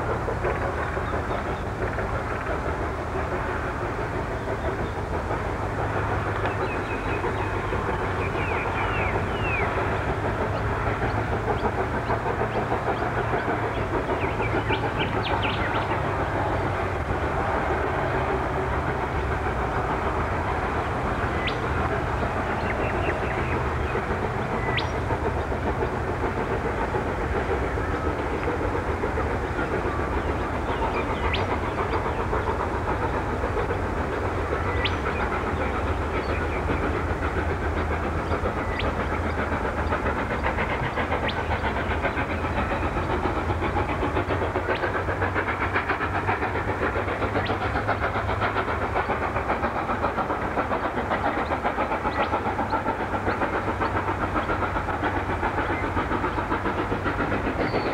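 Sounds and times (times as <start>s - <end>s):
steam locomotive exhaust rumble: 0.0s - 57.9s.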